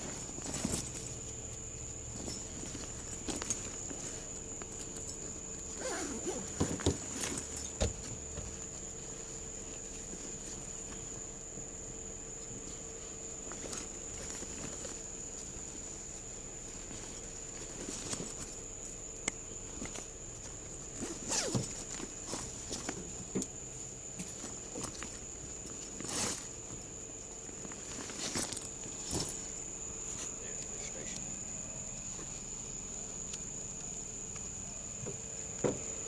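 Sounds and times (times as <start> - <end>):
rustling and clicks of handling: 0.0 - 31.4.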